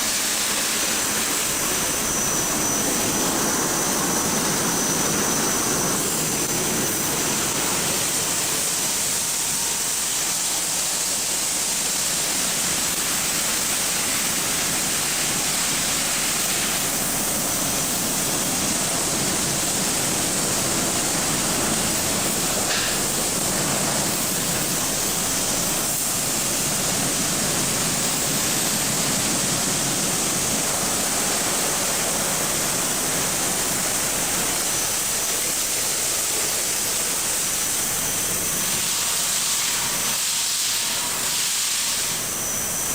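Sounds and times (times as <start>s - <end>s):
car wash water spraying: 0.0s - 42.9s.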